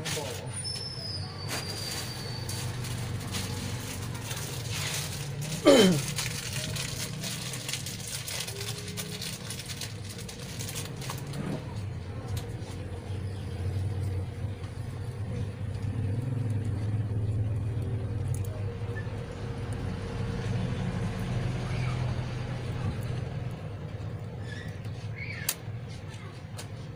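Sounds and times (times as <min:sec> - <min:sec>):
rumble of passing vehicles: 0:00.0 - 0:26.9.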